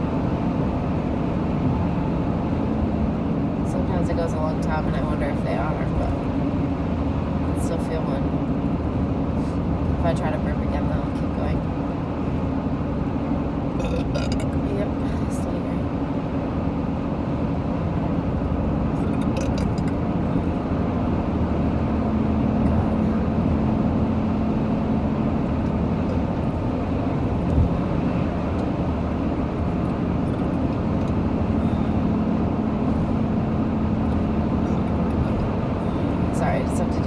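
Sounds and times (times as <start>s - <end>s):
car interior road and engine noise: 0.0s - 37.0s.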